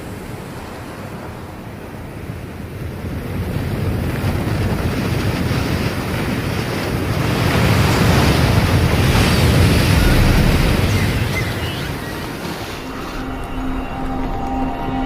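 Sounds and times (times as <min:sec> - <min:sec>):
ocean surf: 0:00.0 - 0:15.0
wind: 0:00.0 - 0:15.0.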